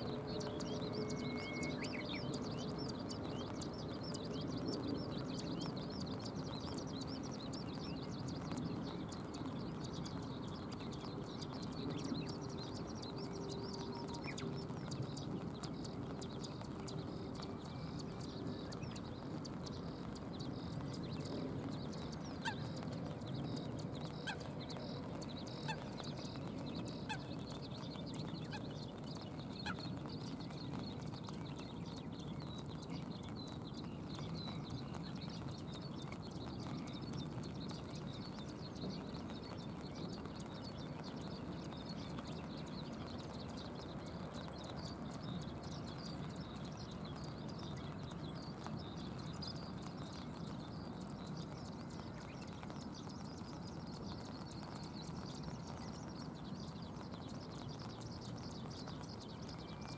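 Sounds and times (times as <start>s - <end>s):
rain hiss and patter: 0.0s - 59.9s
sharp water drips: 0.3s - 59.9s.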